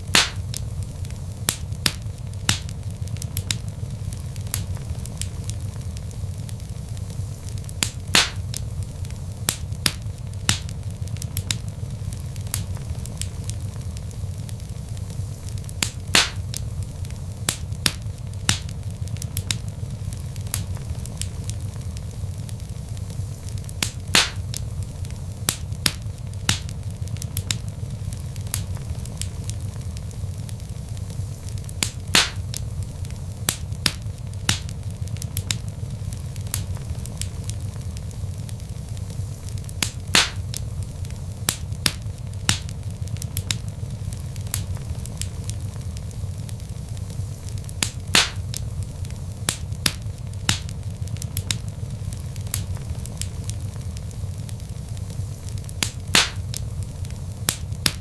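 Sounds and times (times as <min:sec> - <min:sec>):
log fire crackling: 0:00.0 - 0:58.0
loud pops of burning wood: 0:00.0 - 0:58.0.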